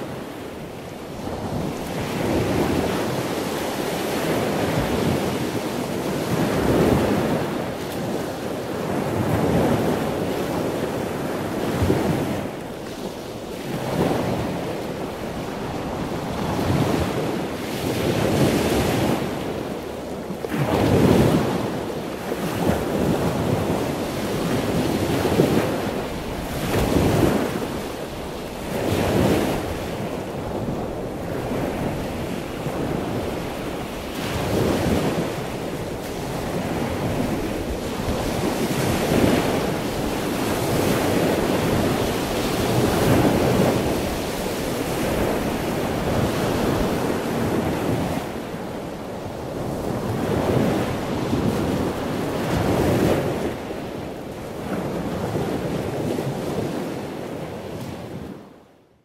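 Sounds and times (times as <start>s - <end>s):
waves breaking: 0.0s - 58.5s
wind noise on microphone: 0.0s - 59.0s.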